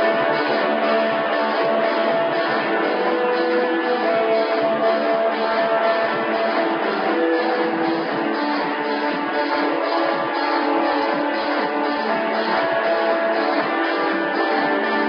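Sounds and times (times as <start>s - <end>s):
band playing droning guitar chords: 0.0s - 15.0s.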